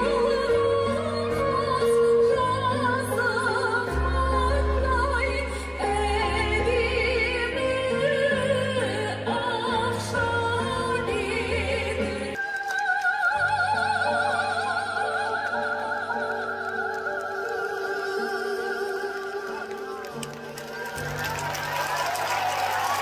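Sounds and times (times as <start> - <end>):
woman singing operatically: 0.0 - 20.0.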